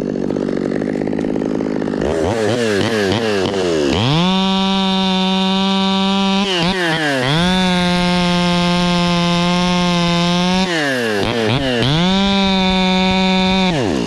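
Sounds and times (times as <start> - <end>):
chainsaw running at high revs: 0.0 - 14.0.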